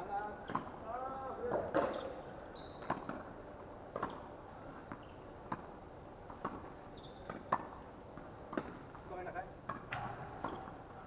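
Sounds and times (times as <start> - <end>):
tennis balls struck by rackets: 0.4 - 0.8, 1.4 - 2.2, 2.8 - 11.0.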